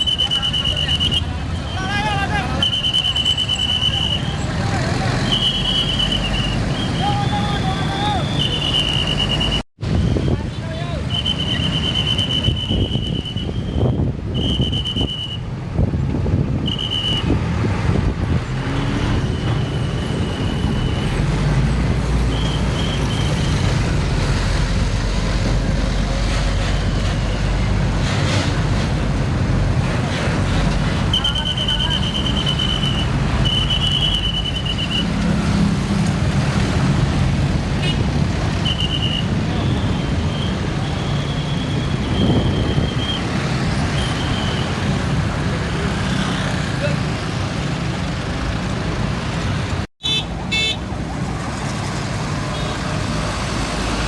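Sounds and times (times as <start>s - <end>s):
trucks and buses passing: 0.0s - 54.0s.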